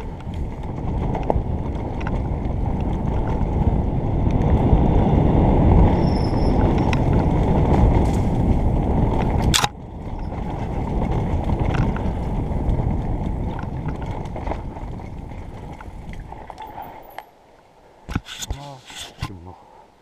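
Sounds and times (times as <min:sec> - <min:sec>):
wind noise: 0:00.0 - 0:17.2
bike tyre rumble: 0:00.0 - 0:19.4.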